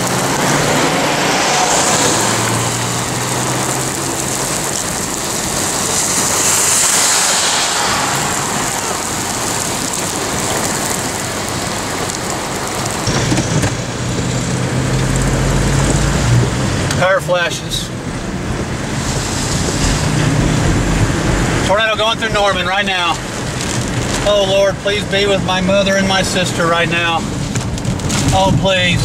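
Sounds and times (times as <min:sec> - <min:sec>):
car engine hum: 0:00.0 - 0:29.0
heavy rain on car roof: 0:00.0 - 0:29.0.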